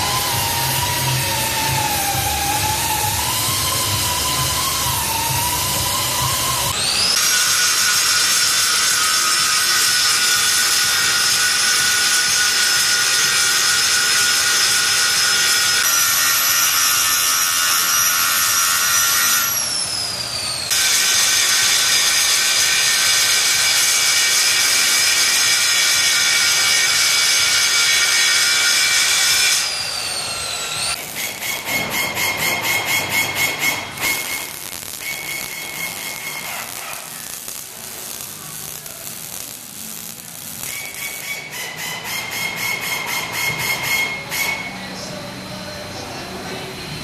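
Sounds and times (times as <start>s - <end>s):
power grinder whining: 0.0s - 42.6s.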